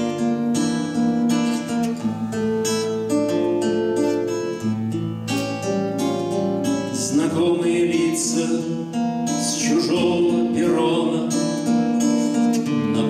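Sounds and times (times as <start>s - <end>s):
classical guitar strumming: 0.0s - 13.0s.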